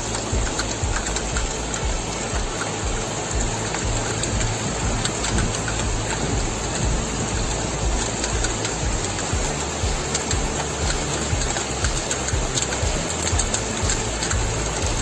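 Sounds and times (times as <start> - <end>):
floodwater flowing: 0.0 - 15.0
heavy rain: 0.0 - 15.0
music: 0.0 - 15.0.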